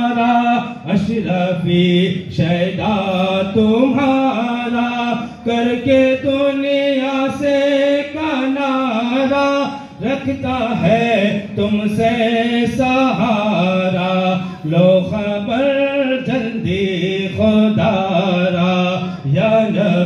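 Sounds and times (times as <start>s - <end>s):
man chanting melodically: 0.0s - 20.0s.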